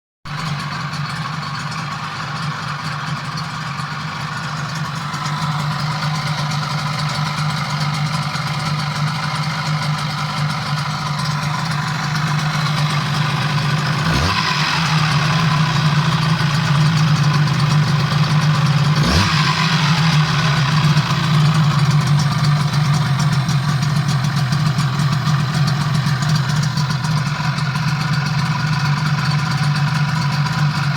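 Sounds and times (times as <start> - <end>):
rotary engine running: 4.4 - 30.9.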